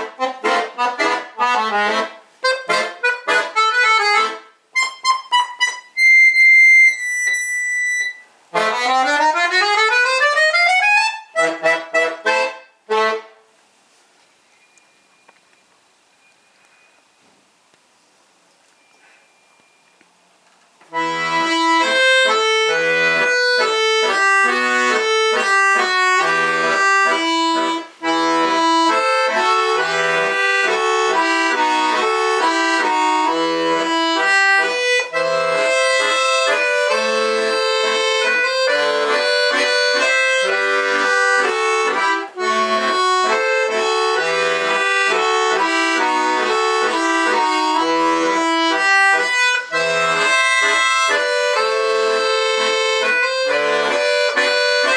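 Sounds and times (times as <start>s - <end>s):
button accordion folk melody: 0.0s - 13.5s, 20.8s - 54.9s.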